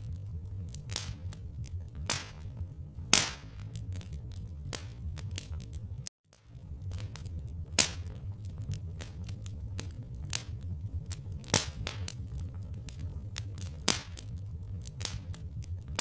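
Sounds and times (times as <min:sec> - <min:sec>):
low steady rumble: 0:00.0 - 0:16.0
wood fire crackling and popping: 0:00.0 - 0:16.0.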